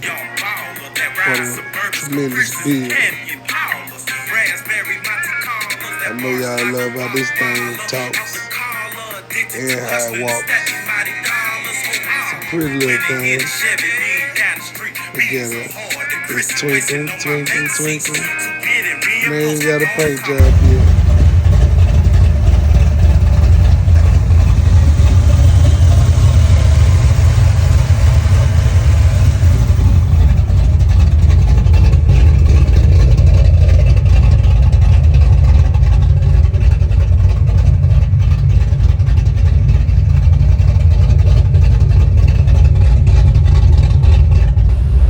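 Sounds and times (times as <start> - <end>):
car engine running: 0.0 - 18.3, 19.1 - 45.0.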